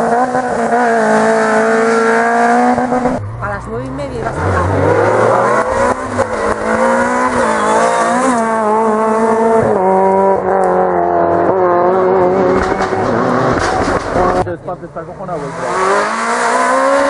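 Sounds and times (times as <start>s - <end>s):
car engine revving through gears: 0.0s - 14.5s, 15.2s - 17.0s.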